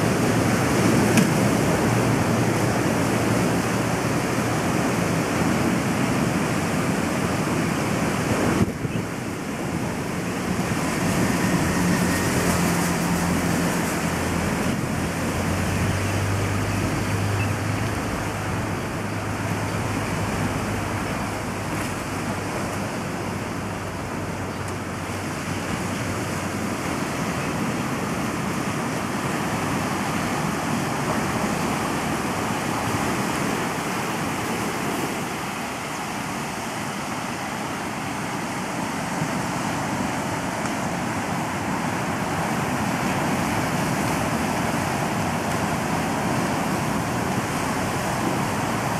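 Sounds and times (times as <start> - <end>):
surf breaking on rocks: 0.0 - 48.9.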